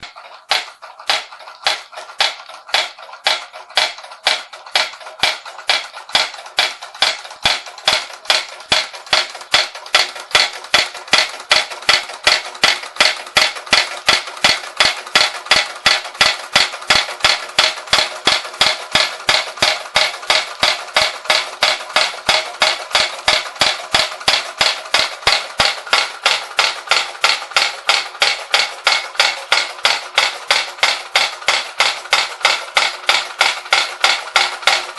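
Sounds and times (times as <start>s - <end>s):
toy hammer knocking: 0.0s - 34.9s.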